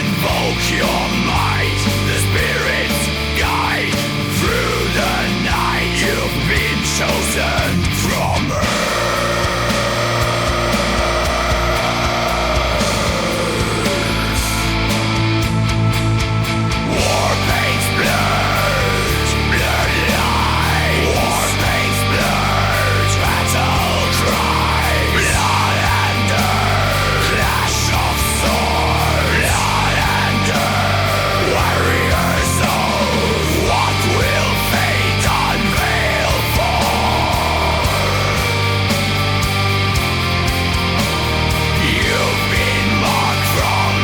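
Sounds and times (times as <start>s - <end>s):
lead guitar fast runs: 0.0s - 44.0s
metal band playing: 0.0s - 44.0s.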